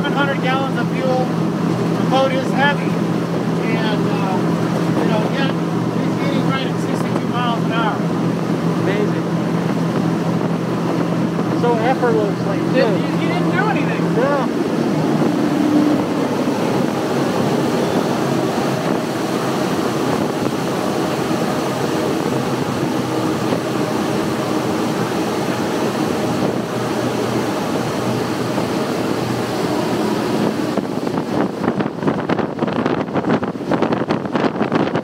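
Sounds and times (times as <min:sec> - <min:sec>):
outboard engine drone: 0:00.0 - 0:35.0
water rushing: 0:00.0 - 0:35.0
wind noise: 0:01.3 - 0:35.0.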